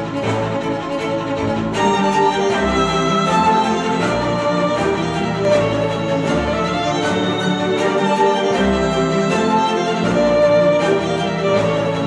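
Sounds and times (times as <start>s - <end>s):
orchestral string music: 0.0s - 12.0s.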